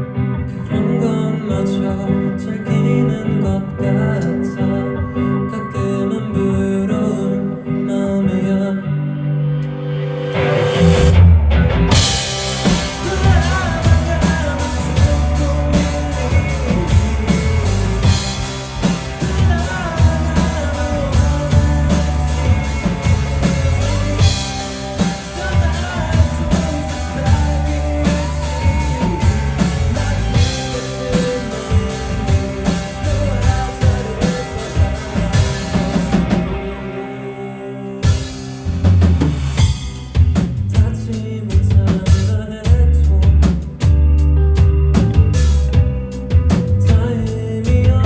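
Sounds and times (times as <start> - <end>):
rock band playing live: 0.0 - 48.0
person singing: 0.4 - 11.1, 11.9 - 38.9, 46.7 - 48.0.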